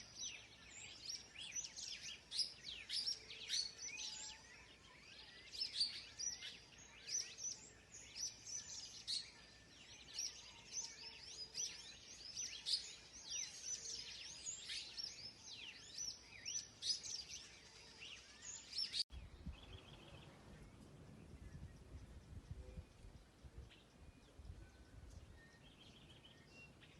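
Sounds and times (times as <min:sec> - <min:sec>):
birds chirping and whistling: 0:00.0 - 0:26.9.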